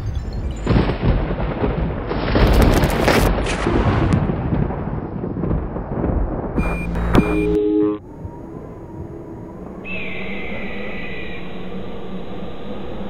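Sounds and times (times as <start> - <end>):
thunder-like rumbling with crashes: 0.4 - 13.0.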